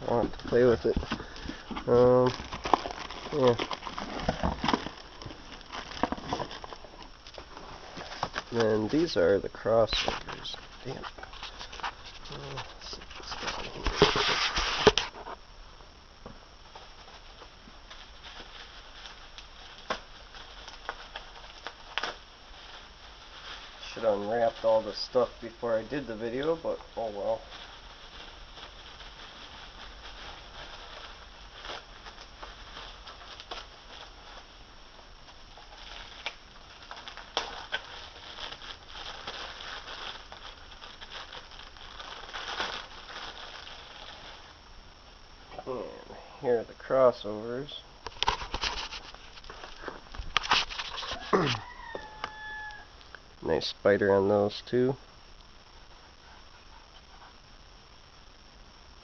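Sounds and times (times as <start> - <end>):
packaging rustling: 0.0 - 15.4, 16.7 - 44.6, 48.1 - 52.8.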